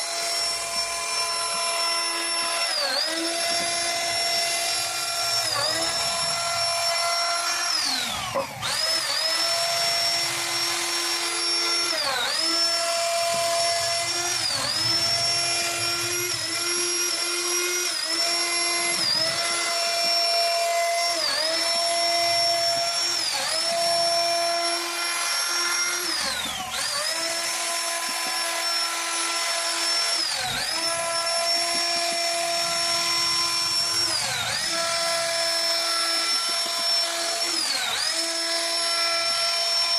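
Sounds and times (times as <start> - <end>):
router spindle whining cutting wood: 0.0 - 39.9.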